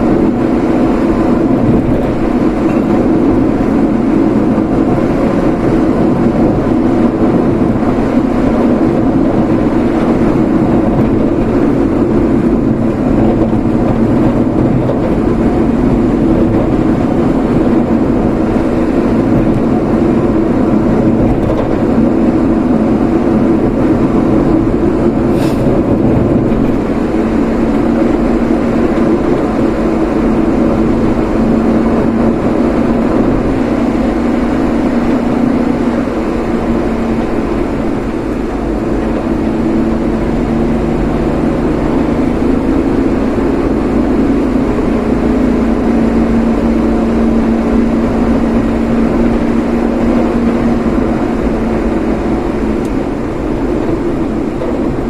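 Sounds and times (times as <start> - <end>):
road noise: 0.0 - 55.0
vehicle engine hum: 0.0 - 55.0.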